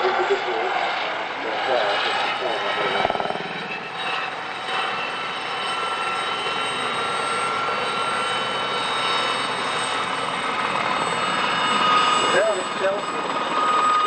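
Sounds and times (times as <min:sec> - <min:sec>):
helicopter turbine whine: 0:00.0 - 0:14.0.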